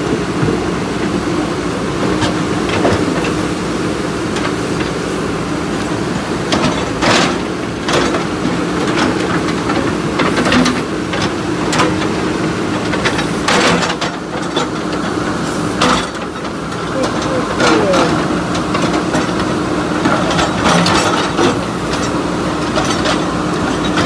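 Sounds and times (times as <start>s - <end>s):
diesel engines running under load: 0.0s - 24.0s.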